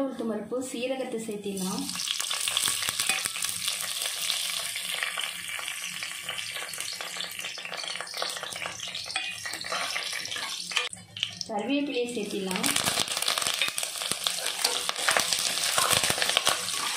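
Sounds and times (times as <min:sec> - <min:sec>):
seeds sizzling and popping in oil: 0:01.6 - 0:11.5, 0:12.2 - 0:16.9.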